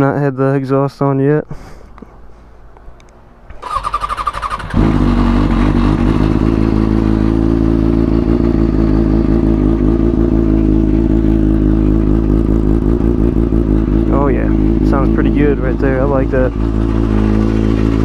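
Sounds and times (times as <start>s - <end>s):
motorcycle engine starting and idling: 3.5s - 18.0s.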